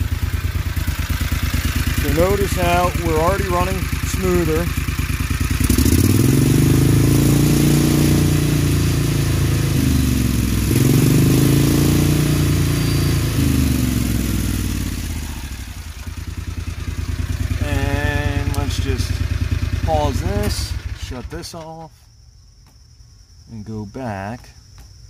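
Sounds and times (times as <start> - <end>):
utility vehicle engine revving: 0.0 - 21.4.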